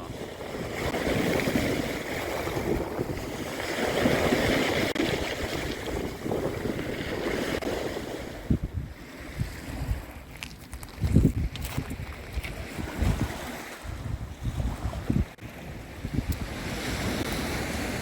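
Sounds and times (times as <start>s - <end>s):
sea waves washing onto beach: 0.0s - 18.0s
wind rumbling on microphone: 0.0s - 18.0s.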